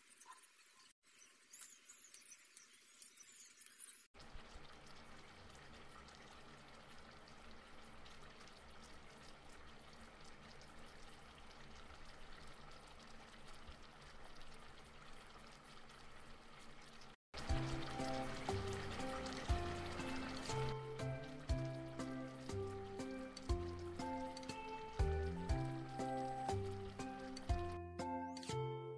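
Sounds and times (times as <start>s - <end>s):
soup bubbling: 4.2s - 27.8s.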